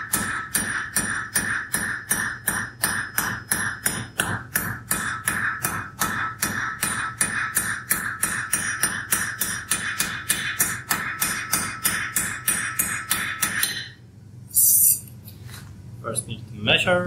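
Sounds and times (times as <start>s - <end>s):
hammer striking metal on anvil: 0.0s - 14.0s.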